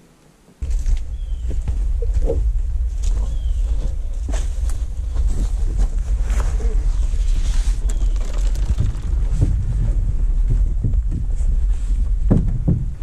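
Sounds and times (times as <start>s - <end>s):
microphone handling noise: 0.6s - 13.0s
wind rumble on microphone: 0.6s - 13.0s.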